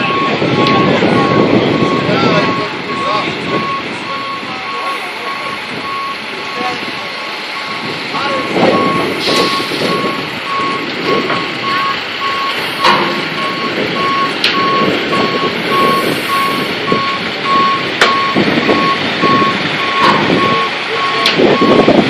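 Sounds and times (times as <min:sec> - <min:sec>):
truck back-up alarm beeping: 0:00.0 - 0:22.0
truck engine: 0:00.0 - 0:22.0.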